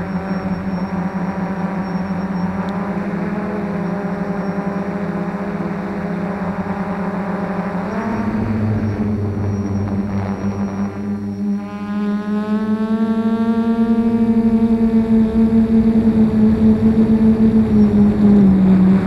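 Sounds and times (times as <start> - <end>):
drone motors and propellers humming: 0.0 - 19.0.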